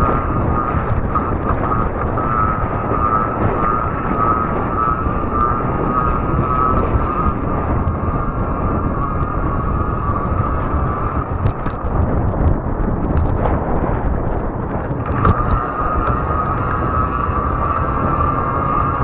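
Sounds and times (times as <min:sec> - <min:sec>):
electric motor whine: 0:00.0 - 0:12.4, 0:14.8 - 0:19.0
sharp ticks: 0:00.0 - 0:19.0
wind and tyre noise: 0:00.0 - 0:19.0.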